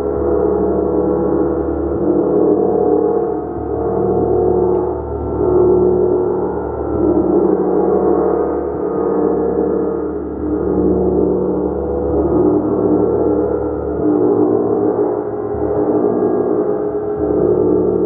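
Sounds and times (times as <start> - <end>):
gong ringing: 0.0 - 18.0.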